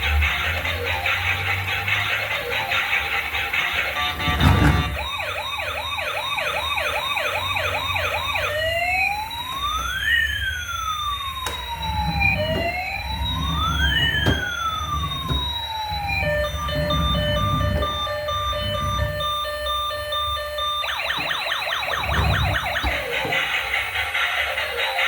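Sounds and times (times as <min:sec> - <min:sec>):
toy electronic siren: 0:00.0 - 0:25.0.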